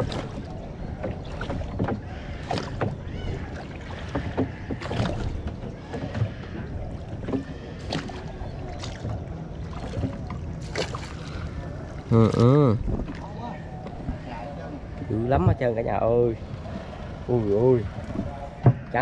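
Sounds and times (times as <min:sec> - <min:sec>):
boat engine low rumble: 0:00.0 - 0:19.0.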